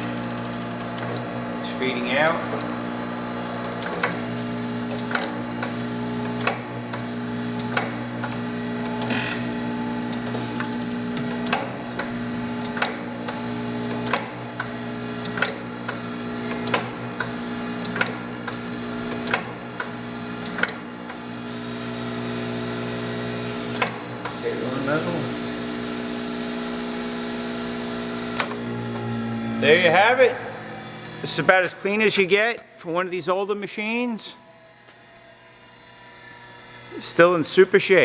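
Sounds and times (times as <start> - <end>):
grinder machine hum: 0.0 - 33.0, 33.8 - 38.0.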